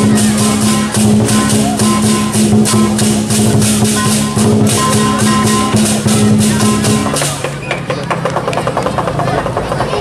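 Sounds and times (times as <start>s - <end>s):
clashing cymbals and drum: 0.0s - 10.0s.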